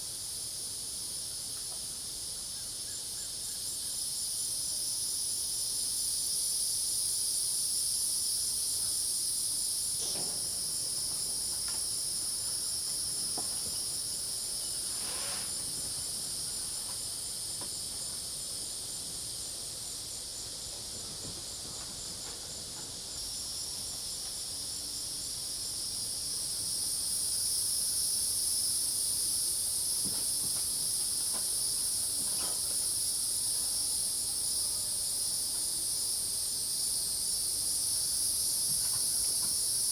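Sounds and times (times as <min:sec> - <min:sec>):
crickets and cicadas trilling: 0:00.0 - 0:39.9.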